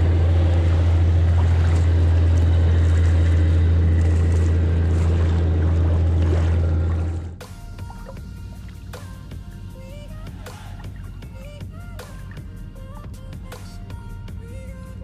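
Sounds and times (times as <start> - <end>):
water noise: 0.0 - 12.6
boat diesel engine drone: 0.0 - 15.0.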